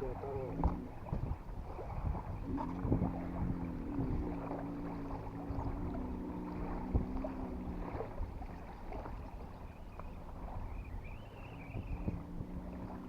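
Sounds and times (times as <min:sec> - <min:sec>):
low engine hum: 0:00.0 - 0:13.0
wind rumbling on microphone: 0:00.0 - 0:13.0.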